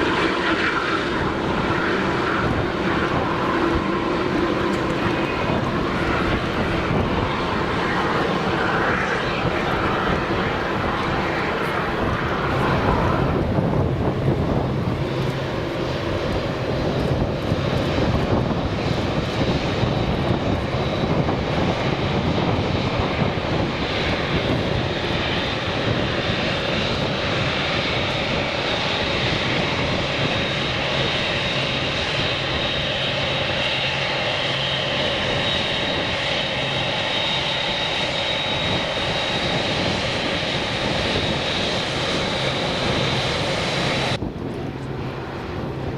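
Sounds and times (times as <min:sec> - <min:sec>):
jet engine roar: 0:00.0 - 0:45.9.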